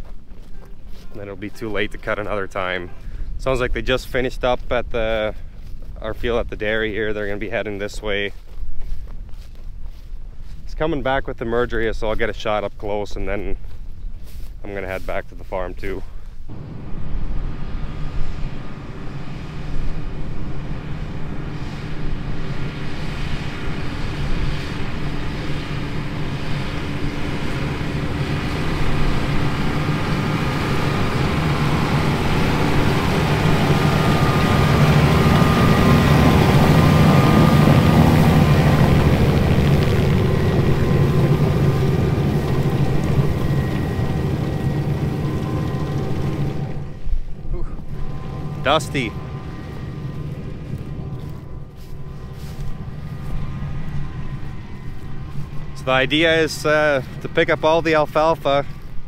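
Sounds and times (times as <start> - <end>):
tractor engine passing: 0.0 - 10.0, 14.6 - 59.0.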